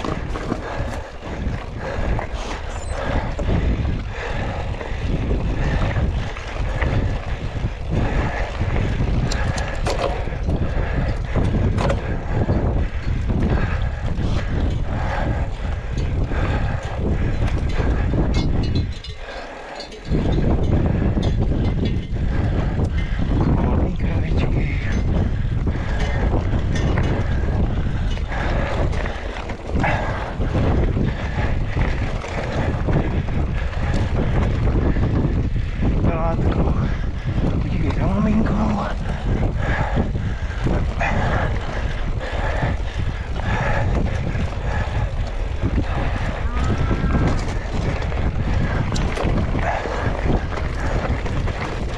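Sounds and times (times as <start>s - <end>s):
bike rattling on stony ground: 0.0s - 51.9s
wind buffeting the microphone: 0.0s - 51.9s.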